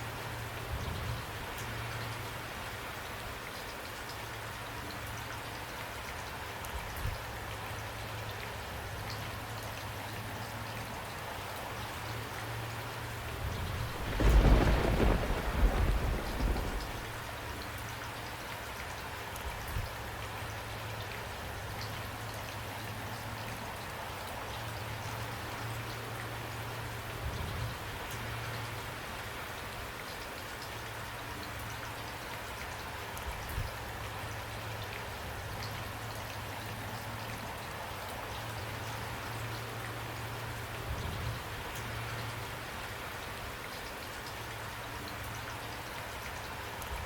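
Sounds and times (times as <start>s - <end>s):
rain with drops ticking: 0.0s - 47.0s.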